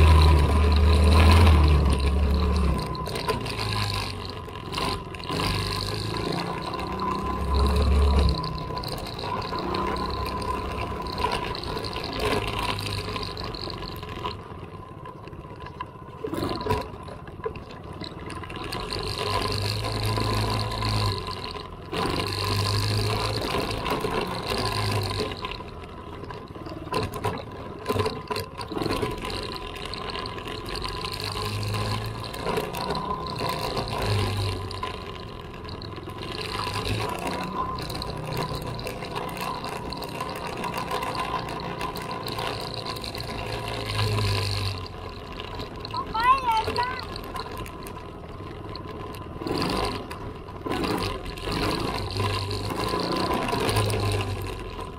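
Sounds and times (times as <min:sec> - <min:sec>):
small vehicle engine running: 0:00.0 - 0:54.9.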